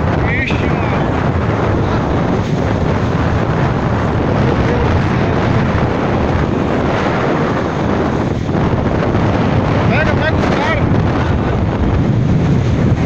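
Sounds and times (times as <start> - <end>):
boat running: 0.0 - 13.0
water rushing past: 0.0 - 13.0
wind buffeting microphone: 0.0 - 13.0.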